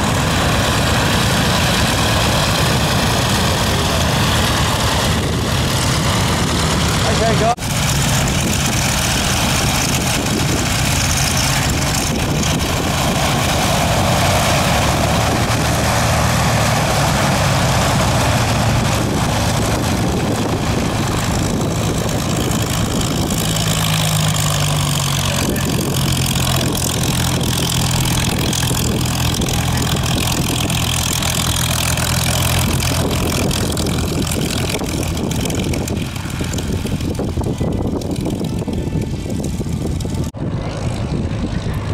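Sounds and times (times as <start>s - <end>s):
engines idling: 0.0s - 41.9s.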